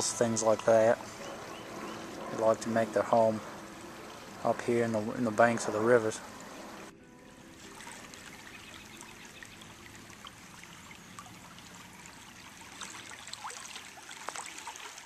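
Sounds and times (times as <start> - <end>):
river water flowing over riffles: 0.0 - 15.0.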